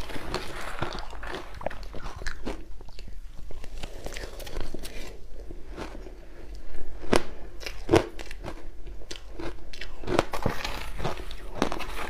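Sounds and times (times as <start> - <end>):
crunching and chewing ice: 0.0 - 12.0.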